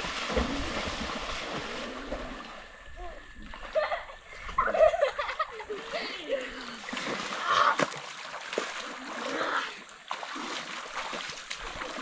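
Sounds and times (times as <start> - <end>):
children splashing in water: 0.0 - 12.0.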